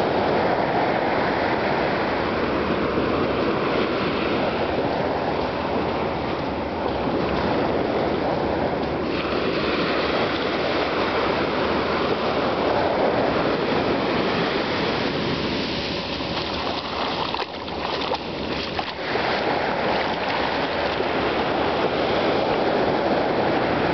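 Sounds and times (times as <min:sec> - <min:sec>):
waves breaking on beach: 0:00.0 - 0:23.9.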